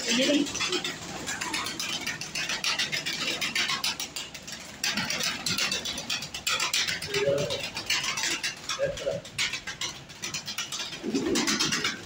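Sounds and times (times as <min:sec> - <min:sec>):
pigeon cooing: 0:00.0 - 0:12.0
pigeons flapping wings: 0:00.0 - 0:12.0.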